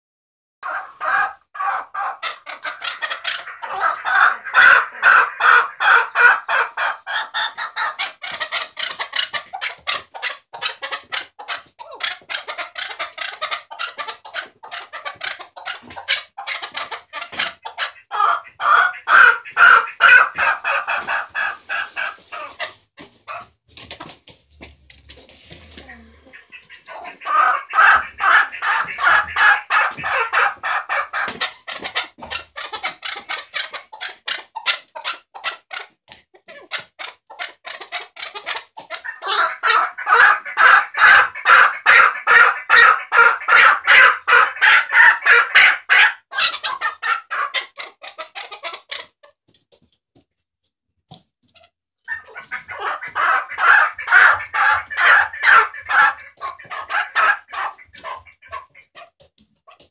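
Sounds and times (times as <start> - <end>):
partridge clucking calls: 0.6 - 23.5, 25.6 - 49.2, 52.1 - 59.9.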